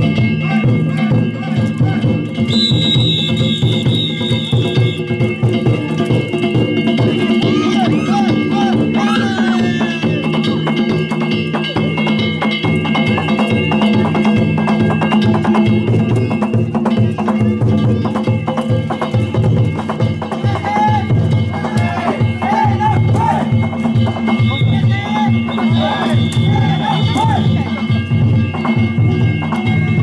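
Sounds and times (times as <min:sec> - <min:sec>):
taiko drum beating: 0:00.0 - 0:30.0
hand gongs ringing: 0:02.3 - 0:30.0.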